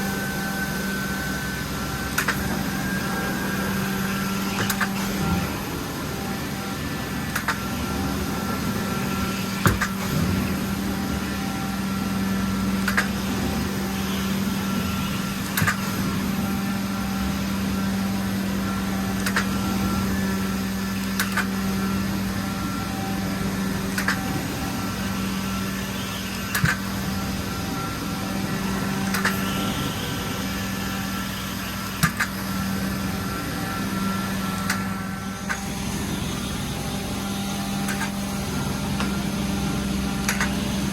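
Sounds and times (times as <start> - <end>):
carpet cleaning machine humming: 0.0 - 40.9.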